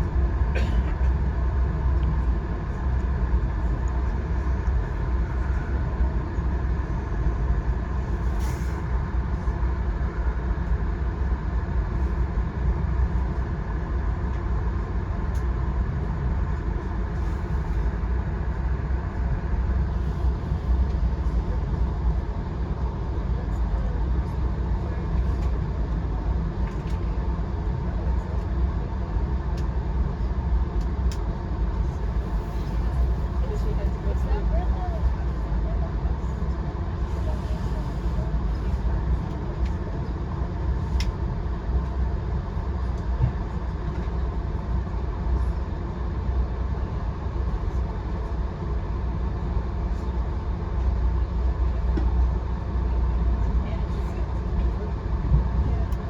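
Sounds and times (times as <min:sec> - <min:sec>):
constant hum: 0:00.0 - 0:56.0
train rumbling on track: 0:00.0 - 0:56.0.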